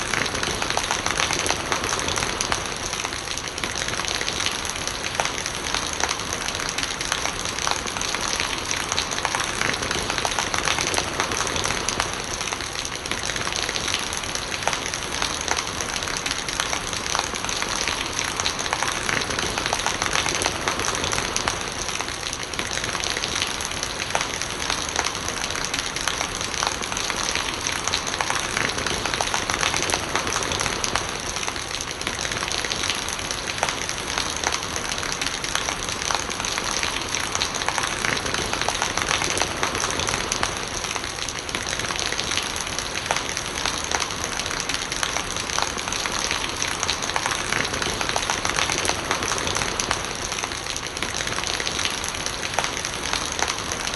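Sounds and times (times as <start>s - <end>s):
rain pattering: 0.0s - 53.9s
rainwater gurgling: 0.0s - 53.9s.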